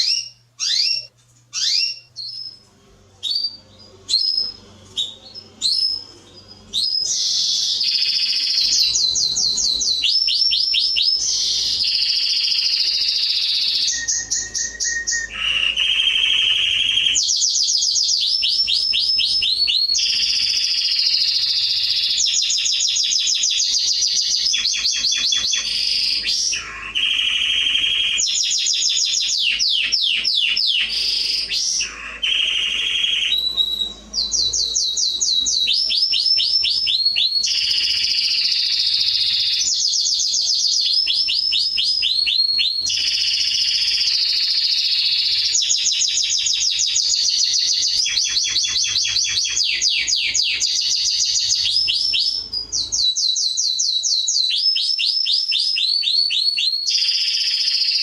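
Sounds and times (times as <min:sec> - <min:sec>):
canary singing trills: 0:00.0 - 0:02.6, 0:03.2 - 0:58.0.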